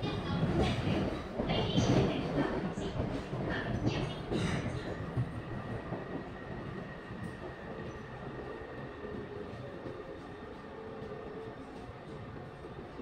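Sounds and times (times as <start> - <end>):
train running rumble: 0.0 - 12.7.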